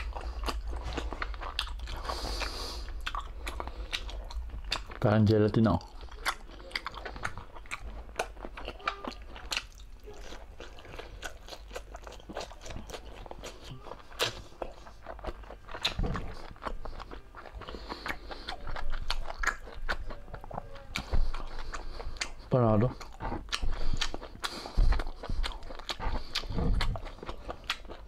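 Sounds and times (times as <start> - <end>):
person chewing and smacking: 0.0 - 28.0.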